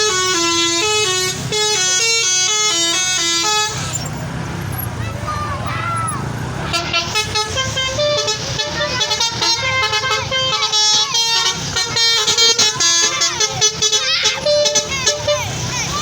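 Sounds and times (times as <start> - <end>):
musical bus air horn: 0.0 - 4.3, 6.6 - 16.0.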